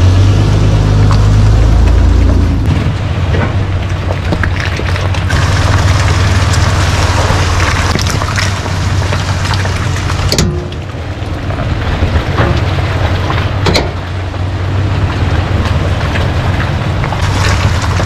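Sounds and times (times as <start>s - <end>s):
truck engine running: 0.0s - 18.0s
tyres crackling on trail: 0.0s - 18.0s.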